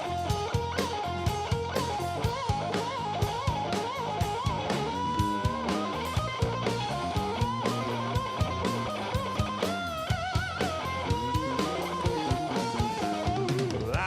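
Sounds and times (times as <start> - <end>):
bass guitar: 0.0 - 14.0
drum kit beat: 0.0 - 14.0
electric lead guitar bending notes: 0.0 - 14.0.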